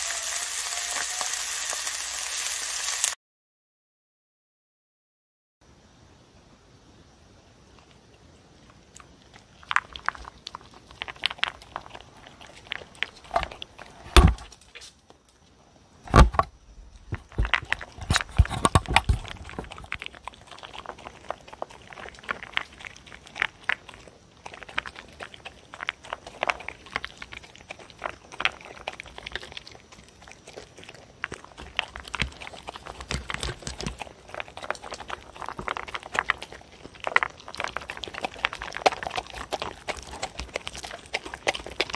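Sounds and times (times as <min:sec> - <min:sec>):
dog chewing and crunching food: 0:07.6 - 0:41.9.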